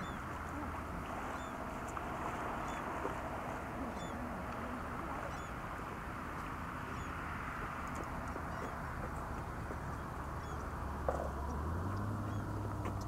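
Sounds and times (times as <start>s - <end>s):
lake water at shoreline: 0.0s - 13.0s
wind: 0.0s - 13.0s.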